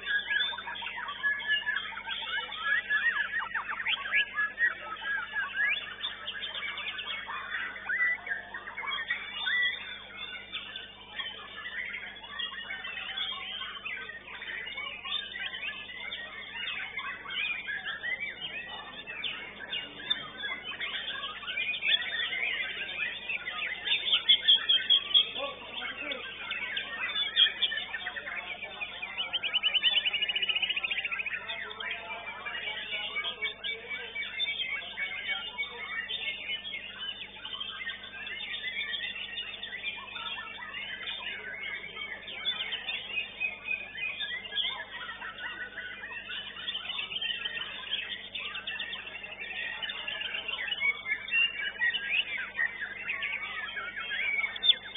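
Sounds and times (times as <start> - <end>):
sharp bird notes: 0.0 - 54.9
songbirds chirping and whistling: 0.0 - 54.9.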